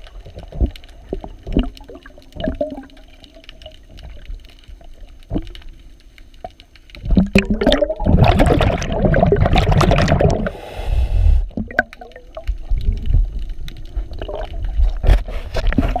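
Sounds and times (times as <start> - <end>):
underwater bubbling: 0.0 - 16.0.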